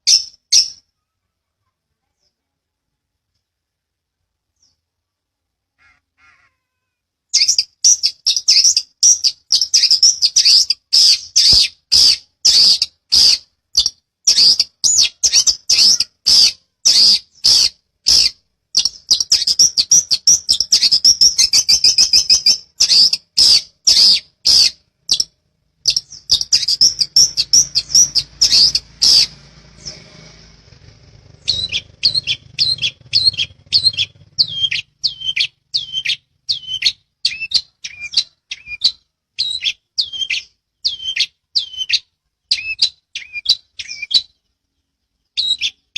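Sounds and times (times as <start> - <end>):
bird chattering song: 0.0 - 0.9, 7.3 - 45.9.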